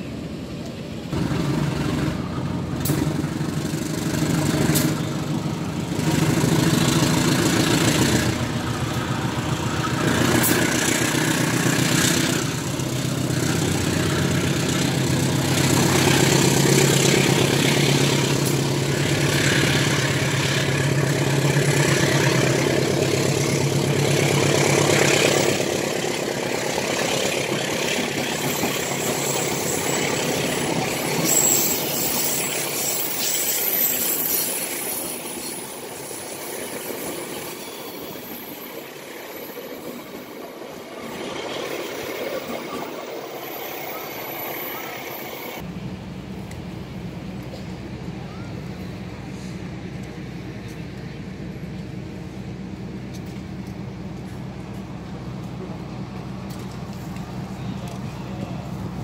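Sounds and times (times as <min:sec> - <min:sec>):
train diesel engine running: 0:00.0 - 0:59.0.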